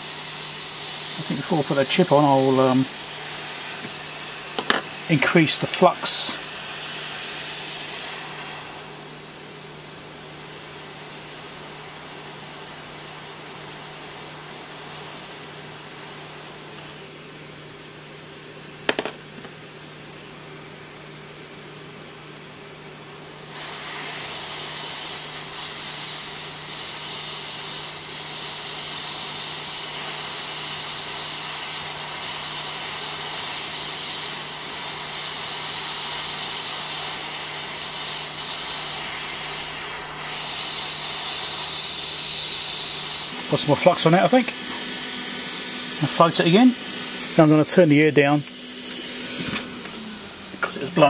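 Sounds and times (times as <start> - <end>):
hot air hissing: 0.0 - 19.1, 23.4 - 51.0.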